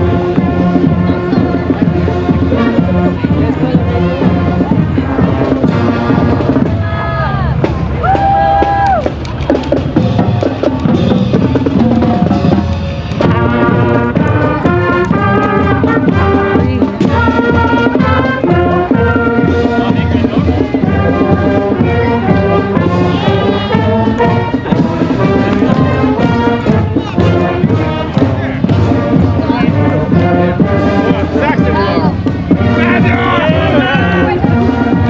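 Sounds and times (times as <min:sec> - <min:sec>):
horns playing melody: 0:00.0 - 0:07.7, 0:09.6 - 0:35.0
drums beating: 0:00.0 - 0:35.0
marching band playing: 0:00.0 - 0:35.0.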